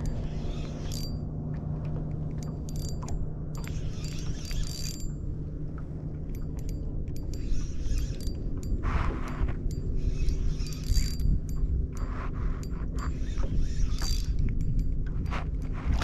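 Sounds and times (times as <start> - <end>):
fishing reel clicking and rattling: 0.0 - 1.3, 2.4 - 5.2, 6.3 - 16.0
steady low hum: 0.0 - 16.0.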